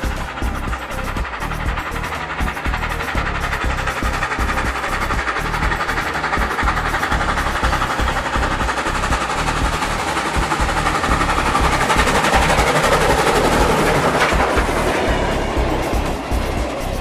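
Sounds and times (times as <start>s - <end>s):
model trains clicking on track: 0.0s - 17.0s.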